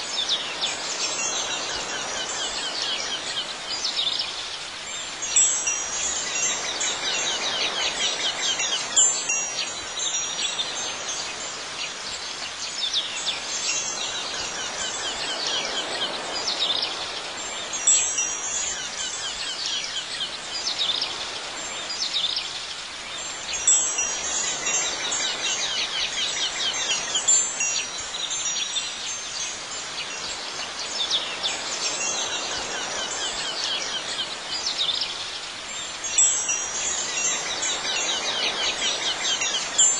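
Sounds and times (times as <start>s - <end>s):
soft steady wash: 0.0s - 39.9s
wind chimes tinkling: 0.0s - 39.9s.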